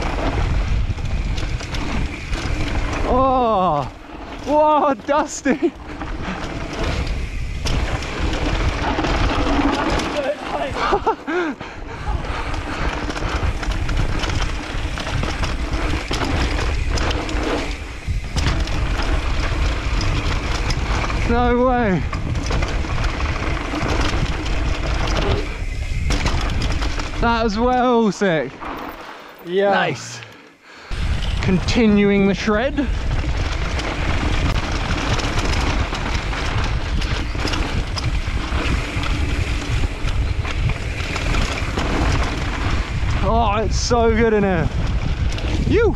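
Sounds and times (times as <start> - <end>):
wind buffeting microphone: 0.0 - 28.0, 30.8 - 45.9
bike rattling over bumps: 0.0 - 29.4, 30.0 - 45.9
tyres rolling over dirt: 0.0 - 45.9.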